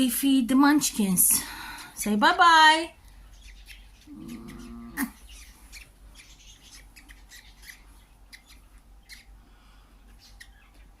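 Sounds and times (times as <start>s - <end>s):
bird chicks chirping: 1.4s - 11.0s.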